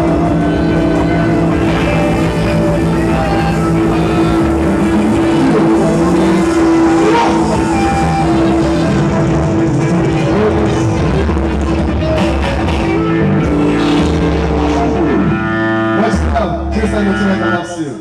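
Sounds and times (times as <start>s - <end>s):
drums: 0.0s - 17.0s
long held note: 0.0s - 17.7s
amplified acoustic guitar: 0.0s - 17.9s
saxophone: 0.0s - 18.0s.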